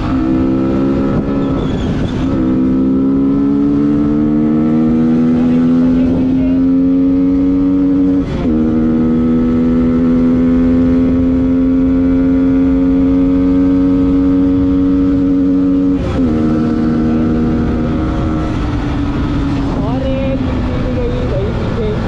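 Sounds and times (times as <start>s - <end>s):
motorcycle engine at full throttle: 0.0s - 22.0s
wind rush on microphone: 0.0s - 22.0s.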